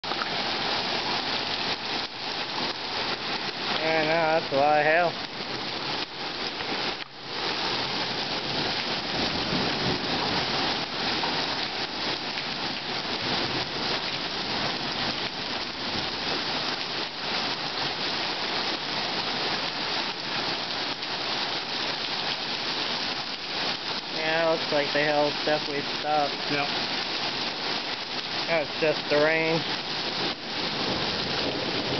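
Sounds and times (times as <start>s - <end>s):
heavy rain on pavement: 0.0s - 31.9s.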